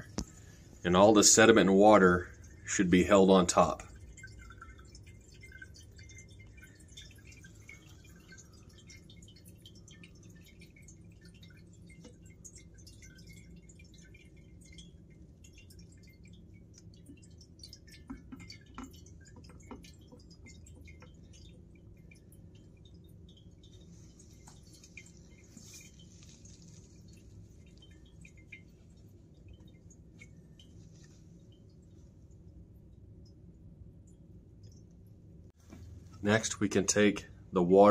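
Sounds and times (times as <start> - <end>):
fuel dripping into glass jar: 0.0 - 37.9
steady low hum: 0.0 - 37.9.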